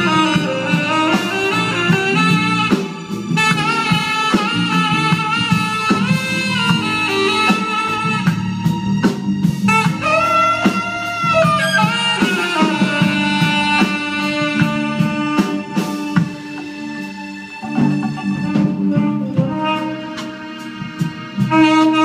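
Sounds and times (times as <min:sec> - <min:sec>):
jazz band playing: 0:00.0 - 0:22.0
saxophone melody: 0:00.0 - 0:22.0.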